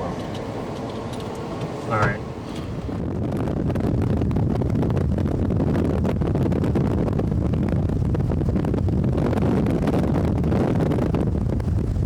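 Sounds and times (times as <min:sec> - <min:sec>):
vehicle engine and road noise: 0:00.0 - 0:12.0
wind noise: 0:00.1 - 0:12.0.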